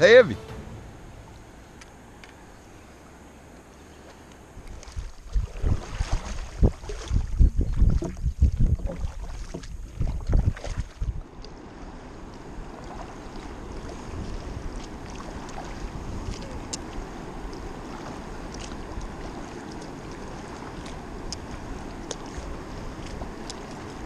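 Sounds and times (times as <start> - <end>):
choppy river water rushing: 0.0 - 24.0
paddle dripping and ticking: 3.5 - 24.0
paddle splashes: 3.8 - 24.0
wind buffeting microphone: 4.5 - 24.0.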